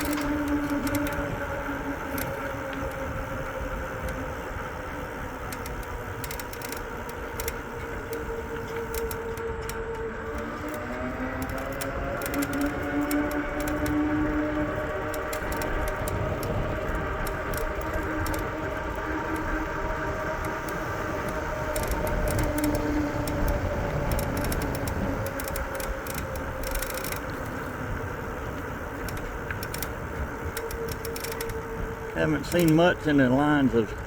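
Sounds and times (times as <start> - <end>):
faint steady motor hum: 0.0 - 34.0
wind rumbling on microphone: 0.0 - 34.0.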